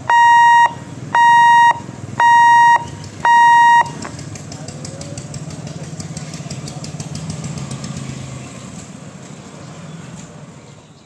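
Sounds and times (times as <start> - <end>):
motorcycle engines passing: 0.0 - 11.0
road traffic passing: 0.0 - 11.0.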